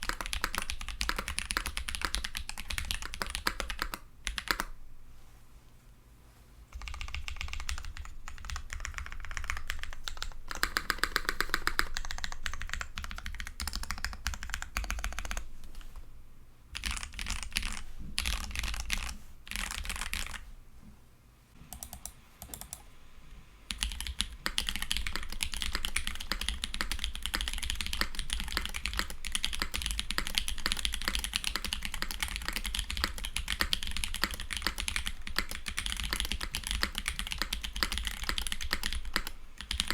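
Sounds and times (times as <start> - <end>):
mechanical keyboard typing: 0.0 - 4.7, 6.7 - 15.4, 16.8 - 20.4, 21.7 - 22.8, 23.7 - 39.9.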